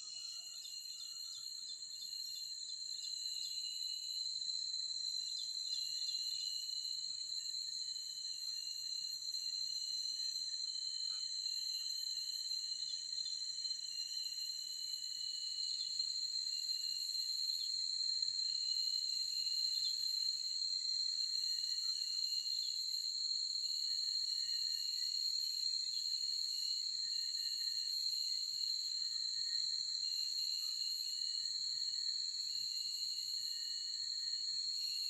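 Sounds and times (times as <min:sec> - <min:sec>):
insect chorus shrill drone: 0:00.0 - 0:35.0.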